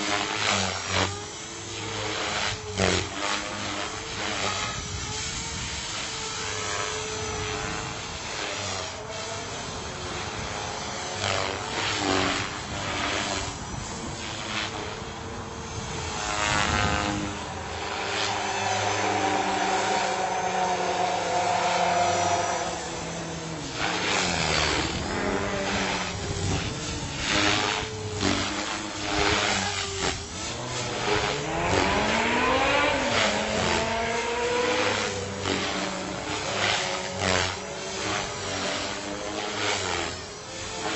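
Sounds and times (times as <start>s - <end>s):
rc helicopter motor and rotor whine: 0.0s - 40.9s.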